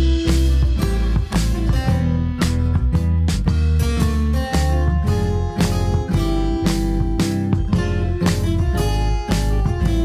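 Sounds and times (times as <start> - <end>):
strummed guitar chords: 0.0 - 10.0.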